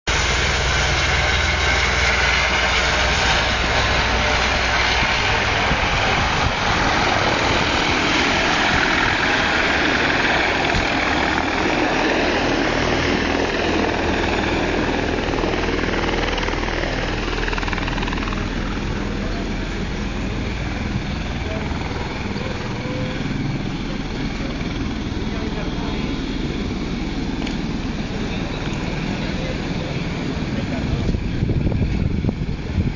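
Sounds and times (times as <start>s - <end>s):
helicopter engine and rotor: 0.1s - 32.9s.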